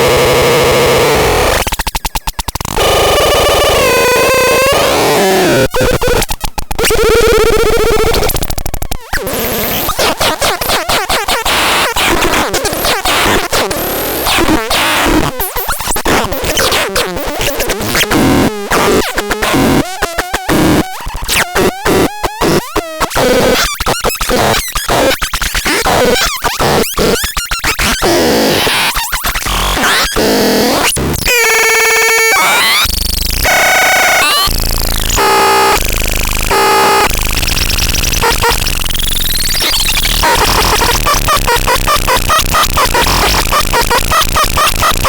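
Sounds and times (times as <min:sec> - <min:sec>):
harsh electronic noise: 0:00.0 - 0:45.0.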